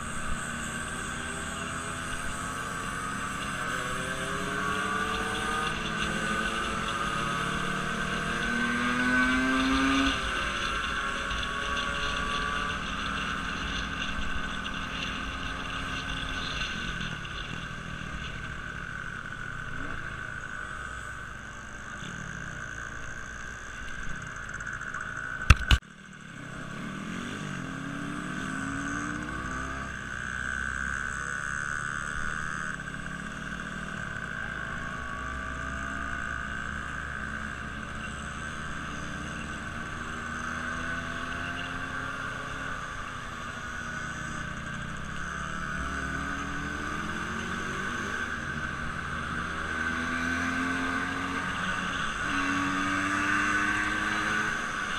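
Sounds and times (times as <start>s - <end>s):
vehicle engine whining: 0.0s - 54.9s.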